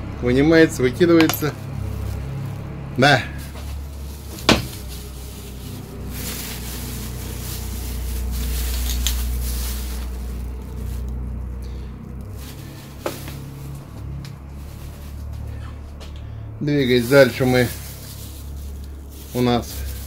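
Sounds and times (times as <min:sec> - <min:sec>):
plastic bags crinkling: 0:01.2 - 0:15.6, 0:16.6 - 0:20.0.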